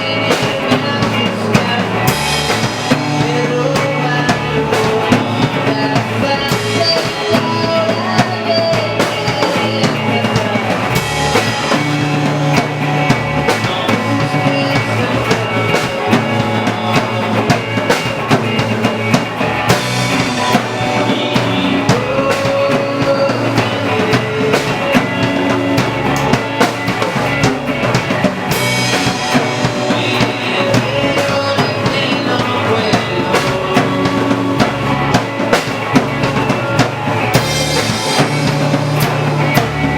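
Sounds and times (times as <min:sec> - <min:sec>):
drum kit steady beat: 0:00.0 - 0:39.9
music: 0:00.0 - 0:39.9.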